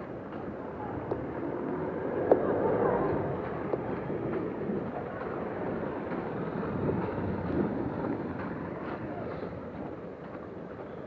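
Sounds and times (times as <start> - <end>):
bus engine: 0.0 - 11.0
bus tyres in slush: 0.0 - 11.0.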